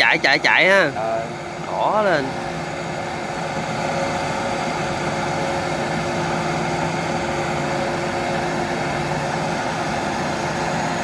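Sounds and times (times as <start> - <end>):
gas torch flame hissing: 0.7 - 11.0.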